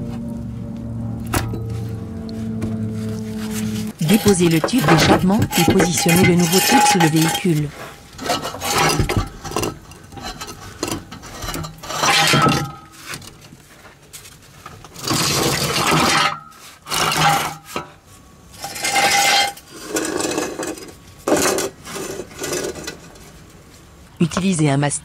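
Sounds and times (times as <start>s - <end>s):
metal tubing clanking and scraping: 1.2s - 13.6s, 14.6s - 23.6s.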